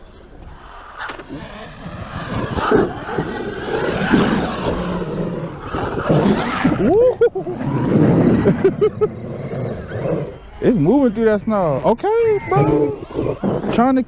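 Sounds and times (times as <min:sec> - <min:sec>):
electric motor whine: 0:00.0 - 0:14.0
tyres churning snow: 0:00.0 - 0:14.0.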